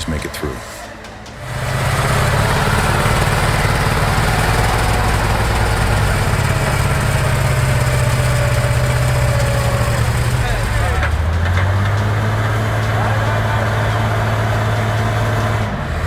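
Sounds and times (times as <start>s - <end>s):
vehicle engine droning: 0.0s - 16.0s.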